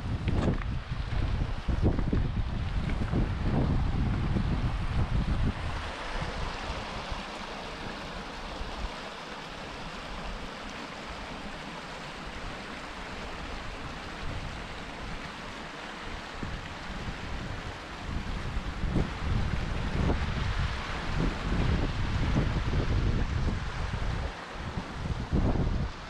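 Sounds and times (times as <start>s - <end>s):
stream rushing over boulders: 0.0s - 26.0s
wind rumbling on microphone: 0.0s - 26.0s.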